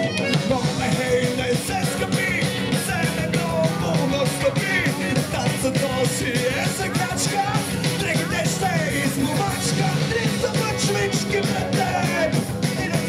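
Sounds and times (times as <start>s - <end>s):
bass guitar: 0.0s - 13.0s
drum kit: 0.0s - 13.0s
electric guitars: 0.0s - 13.0s
man singing: 0.0s - 13.0s.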